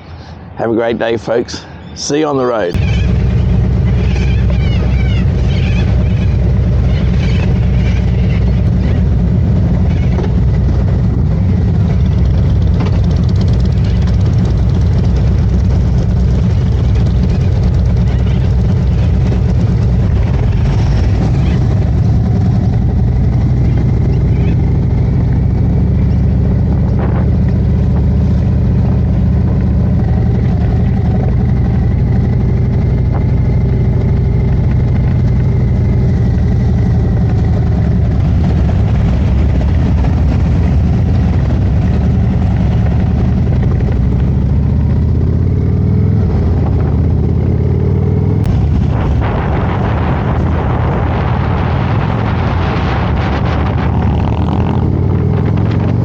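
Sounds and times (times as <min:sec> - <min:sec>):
motorcycle engine running: 0:02.7 - 0:56.0.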